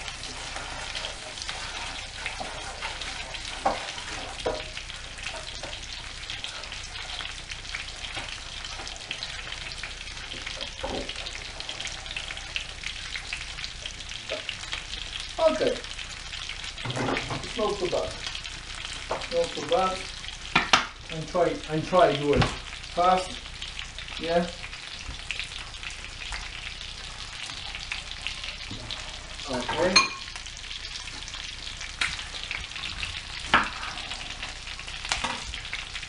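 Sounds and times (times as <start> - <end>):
chicken frying in oil: 0.0 - 36.0.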